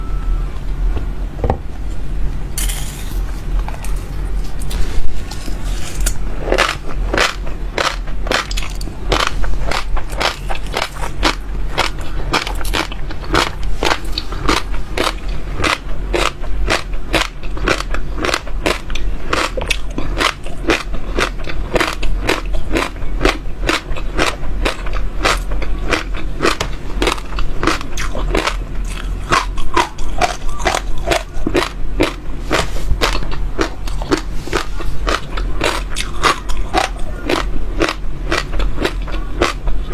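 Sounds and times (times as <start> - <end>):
steady low hum: 0.0 - 39.9
seeds crunched between teeth: 2.6 - 39.6.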